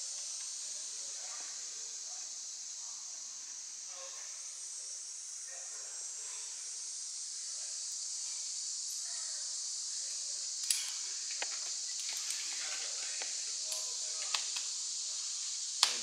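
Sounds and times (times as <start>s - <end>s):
insect chorus hiss: 0.0s - 16.0s.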